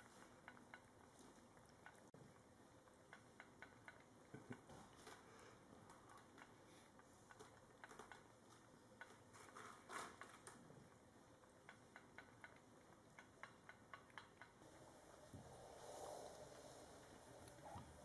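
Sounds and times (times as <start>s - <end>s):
cats lapping and eating: 0.0s - 18.0s.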